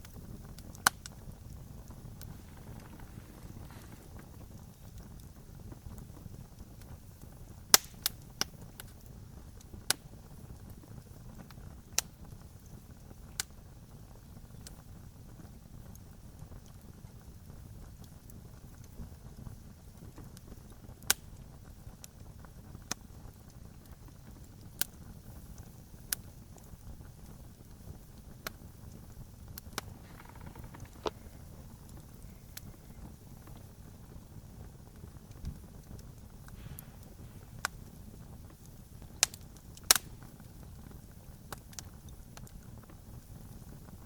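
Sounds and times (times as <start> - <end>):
campfire crackling: 0.0 - 44.0
low fire rumble: 0.0 - 44.0.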